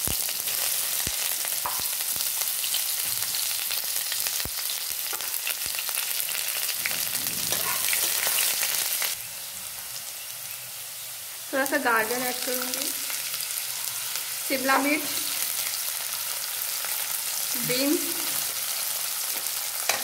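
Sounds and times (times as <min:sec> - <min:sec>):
onion sizzling in hot oil: 0:00.0 - 0:20.0.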